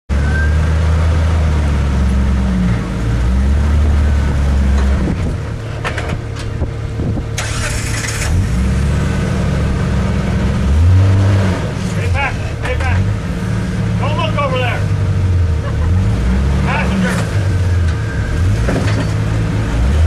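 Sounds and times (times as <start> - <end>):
off-road engine revving: 0.1 - 20.0.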